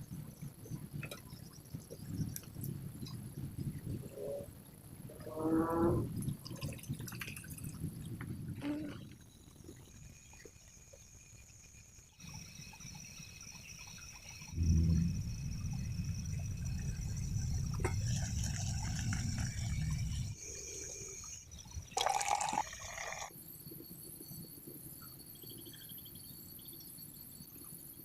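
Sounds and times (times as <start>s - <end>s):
water sounds: 0.0s - 23.3s
insects chirring: 0.0s - 28.0s.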